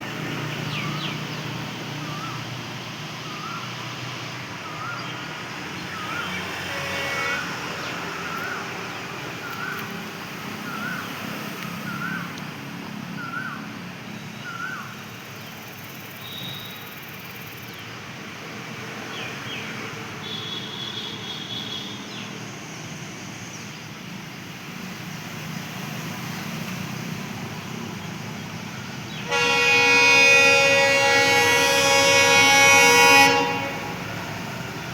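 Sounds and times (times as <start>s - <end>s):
distant traffic rumble: 0.0s - 34.9s.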